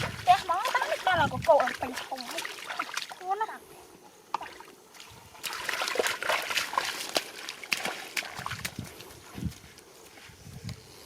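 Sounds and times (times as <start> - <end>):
splashing in shallow muddy water: 0.0 - 3.6, 4.3 - 10.2.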